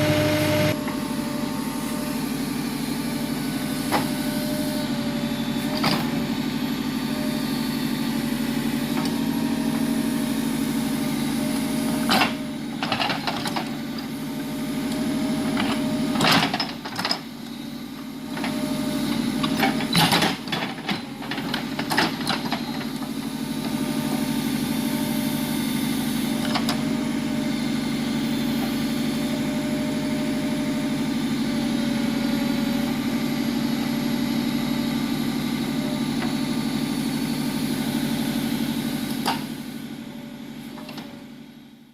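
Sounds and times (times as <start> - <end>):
diesel engine running: 0.0 - 41.8.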